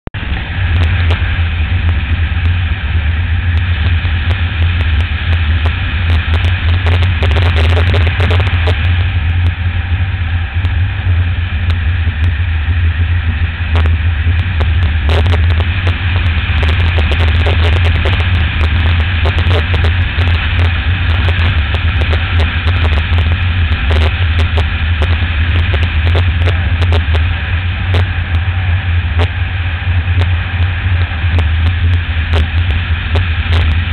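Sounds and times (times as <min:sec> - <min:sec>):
motorcycle engine running: 0:00.1 - 0:33.9
wind rushing over microphone: 0:00.2 - 0:33.9.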